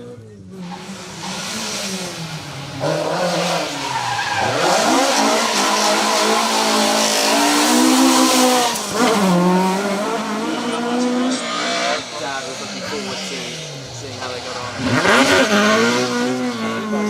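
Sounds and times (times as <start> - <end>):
car engine revving hard: 0.6 - 17.0.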